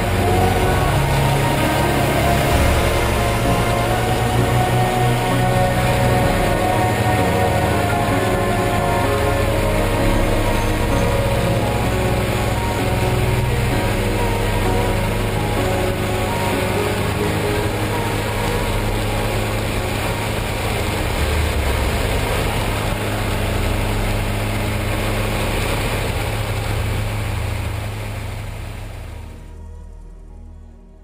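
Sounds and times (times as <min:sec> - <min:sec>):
road noise: 0:00.0 - 0:29.6.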